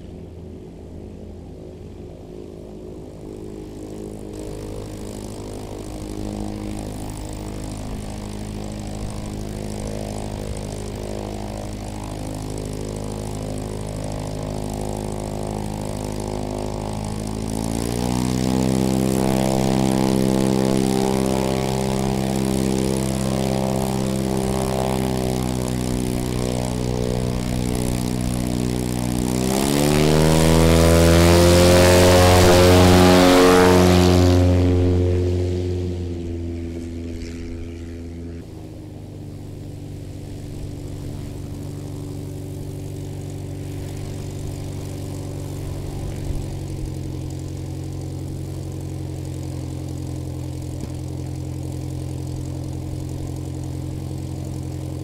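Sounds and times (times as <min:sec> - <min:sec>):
light plane engine and propeller: 0:00.0 - 0:55.0
light plane engine idling: 0:00.0 - 0:55.0.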